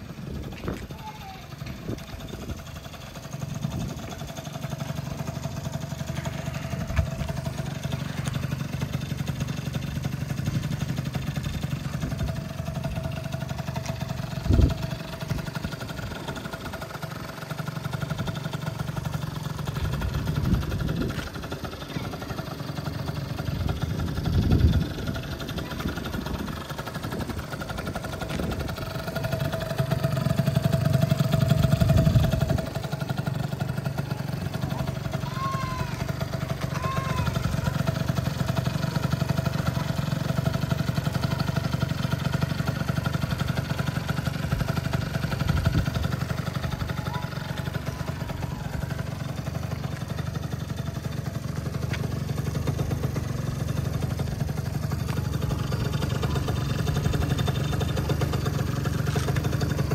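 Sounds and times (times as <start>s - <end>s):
scooter engine idling and revving: 0.0s - 59.9s.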